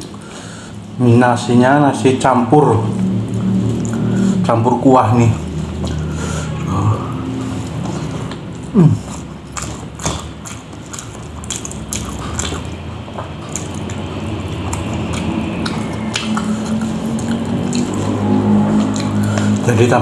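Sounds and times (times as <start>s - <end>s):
person chewing and lip smacking: 2.8s - 20.0s.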